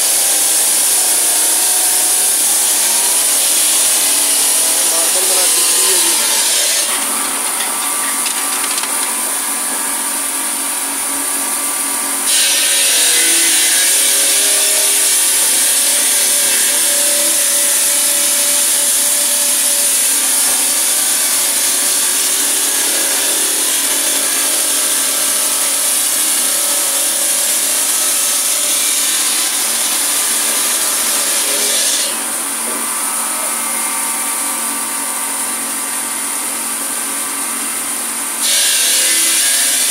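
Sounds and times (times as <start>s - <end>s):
circular saw cutting marble: 0.0s - 39.9s.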